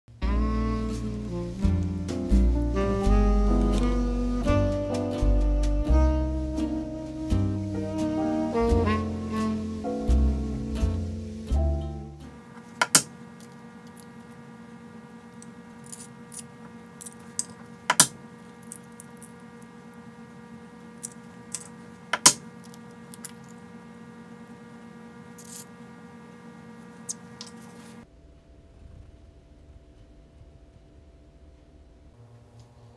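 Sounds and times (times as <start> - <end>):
steady hum: 0.1 - 32.3.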